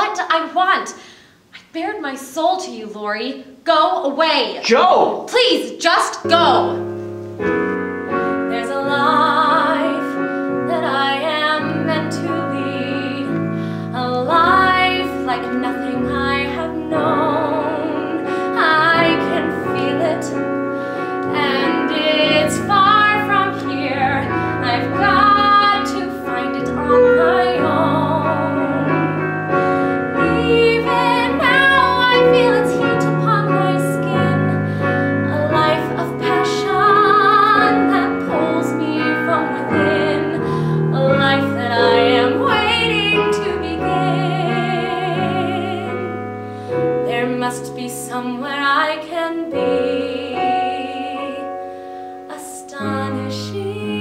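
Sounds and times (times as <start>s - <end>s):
woman singing with vibrato: 5.4s - 7.0s, 8.4s - 29.2s, 30.0s - 34.6s, 35.2s - 46.2s, 47.0s - 51.6s, 52.2s - 54.0s
piano accompaniment: 6.1s - 54.0s.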